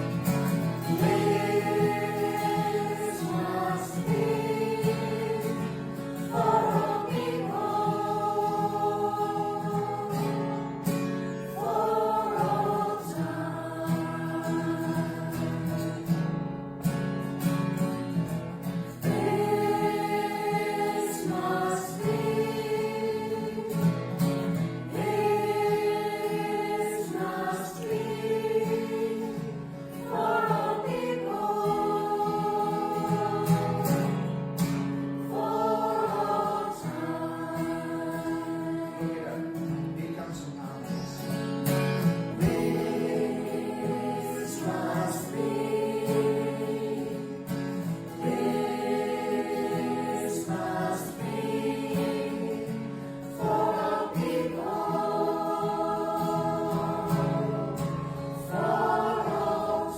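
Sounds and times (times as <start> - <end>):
choir singing held notes: 0.0 - 16.2, 18.9 - 40.3, 42.0 - 59.9.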